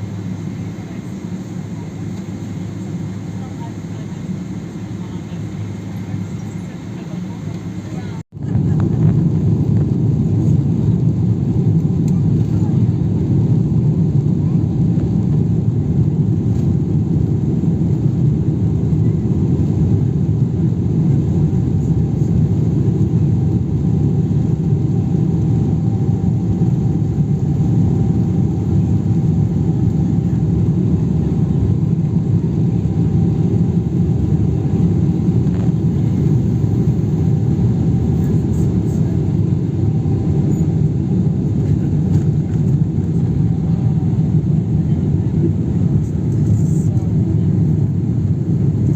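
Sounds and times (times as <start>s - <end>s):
airliner cabin rumble: 0.0s - 48.9s.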